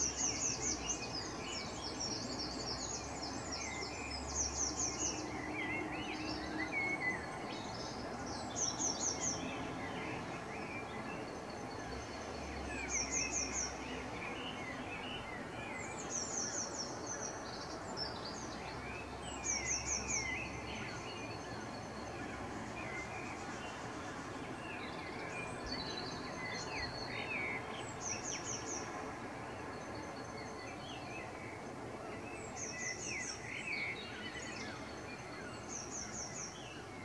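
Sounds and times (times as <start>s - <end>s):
steady background noise: 0.0s - 37.0s.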